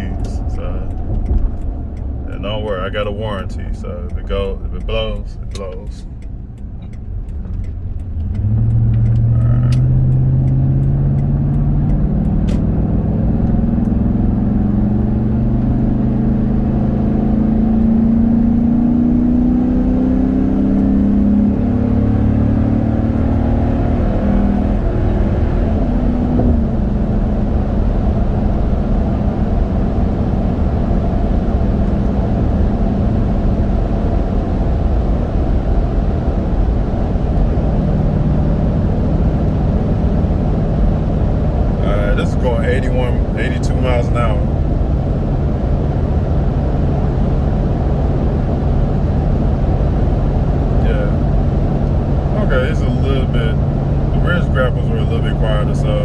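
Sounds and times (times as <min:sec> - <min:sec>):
car engine accelerating: 0:00.0 - 0:56.0
road noise from tires: 0:00.0 - 0:56.0.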